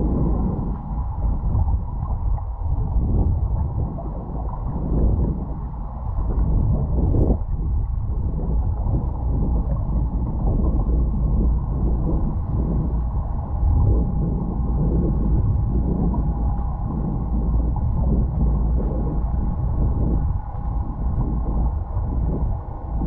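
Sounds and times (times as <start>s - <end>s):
underwater water rushing: 0.0s - 23.0s.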